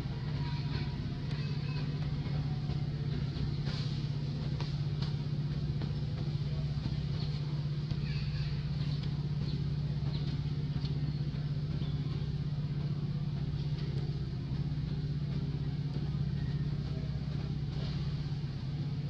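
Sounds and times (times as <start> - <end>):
motor idling: 0.0 - 19.0.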